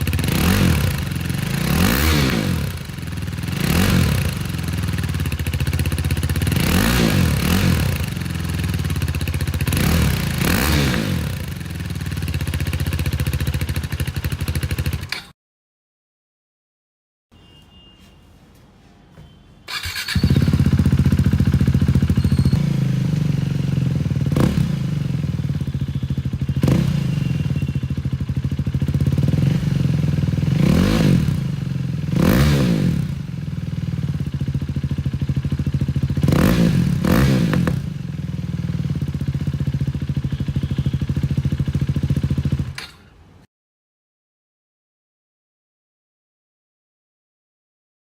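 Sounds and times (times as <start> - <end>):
motorcycle engine idling and revving: 0.0 - 15.4, 19.7 - 43.2.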